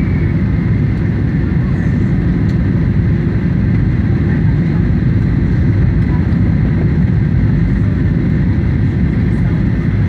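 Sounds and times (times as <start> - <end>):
airliner engines rumbling: 0.0 - 10.0
faint steady whine: 0.0 - 10.0.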